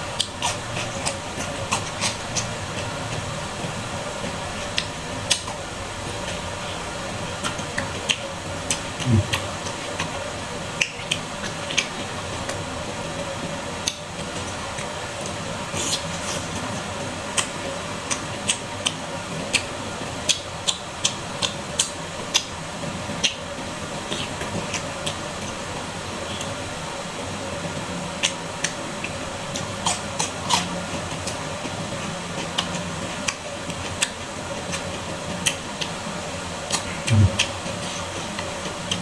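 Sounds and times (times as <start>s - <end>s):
faint hum: 0.0s - 20.1s, 22.1s - 39.0s
chewing crunches and wet clicks: 0.1s - 12.6s, 13.8s - 25.6s, 28.1s - 39.0s.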